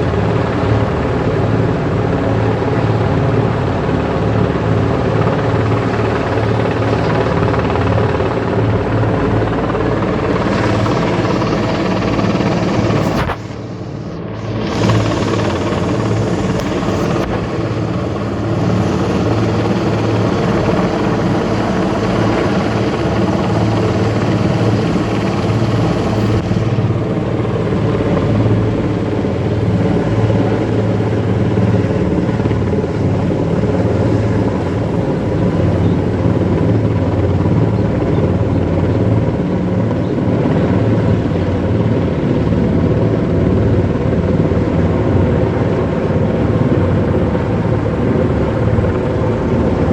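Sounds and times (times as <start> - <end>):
helicopter running: 0.0 - 49.9.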